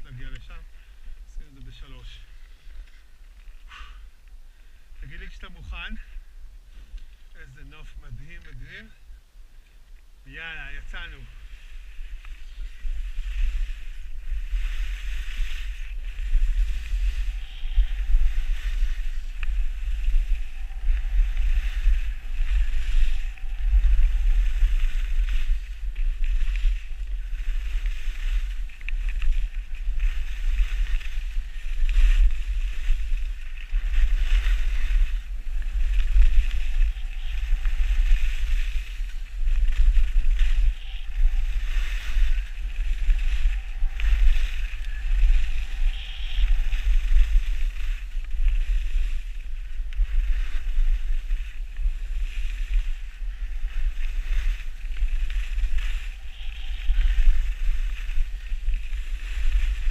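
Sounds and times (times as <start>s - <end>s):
skis sliding over snow: 0.0s - 4.0s, 9.6s - 59.9s
wind buffeting microphone: 0.0s - 59.9s.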